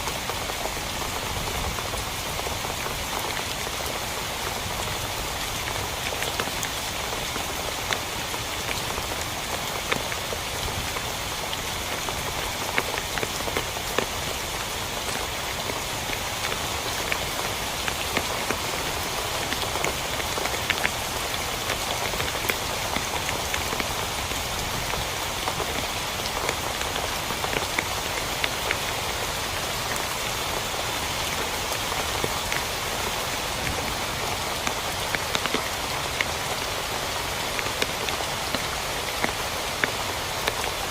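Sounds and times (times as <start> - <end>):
rain hitting a tent: 0.0 - 40.9.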